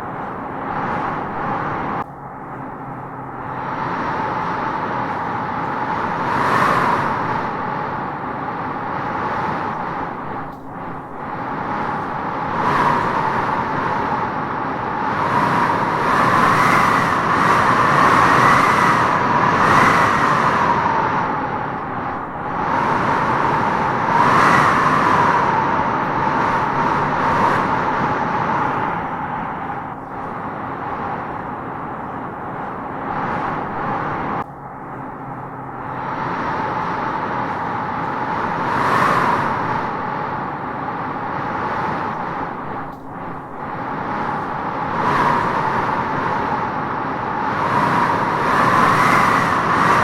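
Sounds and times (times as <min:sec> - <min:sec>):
wind howling through trees: 0:00.0 - 0:50.0.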